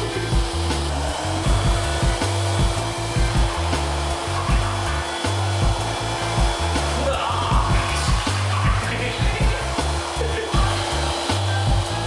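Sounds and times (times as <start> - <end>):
background music with steady beat: 0.0 - 12.0
electric air pump humming: 0.0 - 12.0.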